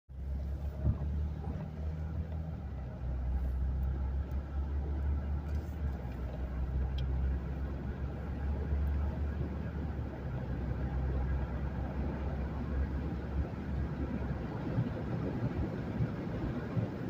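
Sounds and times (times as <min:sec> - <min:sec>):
car engine rumble: 0:00.1 - 0:17.0
road noise: 0:00.1 - 0:17.0.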